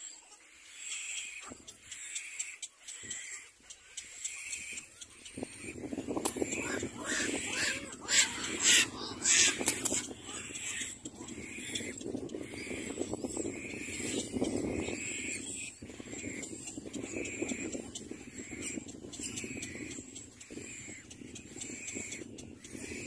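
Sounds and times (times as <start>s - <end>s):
nestlings hoarse begging calls: 0.1s - 23.0s.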